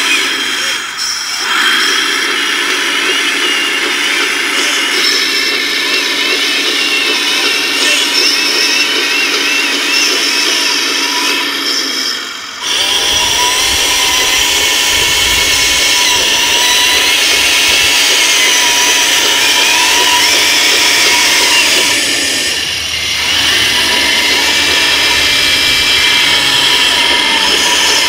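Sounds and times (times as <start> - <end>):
electric motors whining: 0.0 - 28.0.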